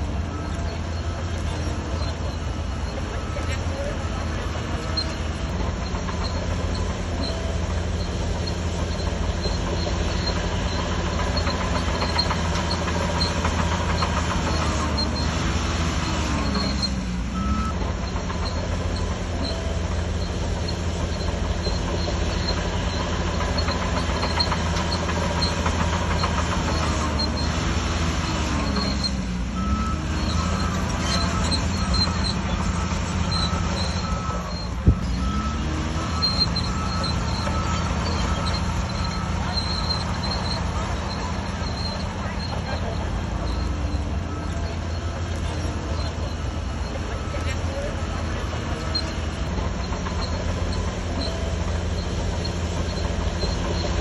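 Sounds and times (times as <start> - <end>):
bulldozer diesel engine under load: 0.0 - 54.0
bulldozer tracks: 0.0 - 54.0.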